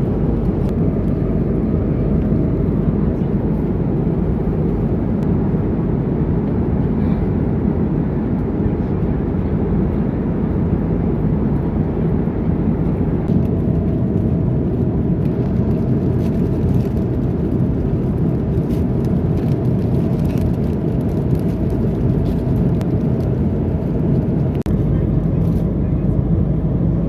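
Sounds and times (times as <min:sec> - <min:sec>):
jet cabin rumble: 0:00.0 - 0:27.0.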